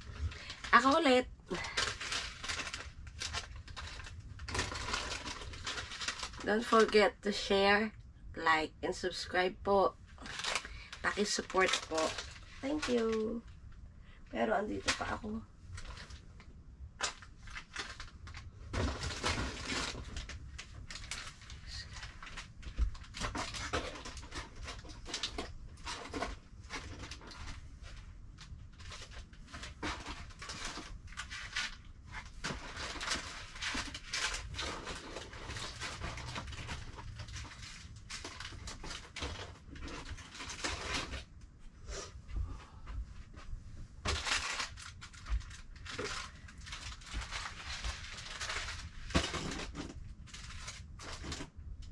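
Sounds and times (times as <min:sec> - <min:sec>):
rummaging through boxes and bags: 0:00.0 - 0:07.4, 0:10.2 - 0:13.5, 0:14.6 - 0:41.4, 0:42.0 - 0:51.7.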